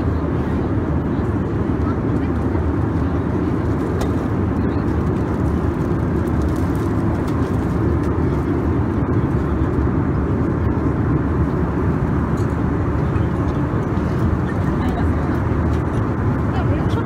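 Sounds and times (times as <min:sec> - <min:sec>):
airliner cabin engine roar: 0:00.0 - 0:17.0.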